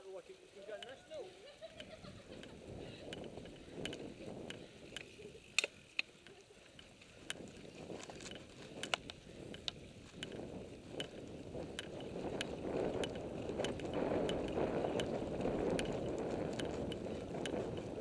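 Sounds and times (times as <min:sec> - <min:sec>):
bike clicks and rattles: 0:00.4 - 0:18.0
bike tyres rumbling on dirt: 0:01.6 - 0:18.0.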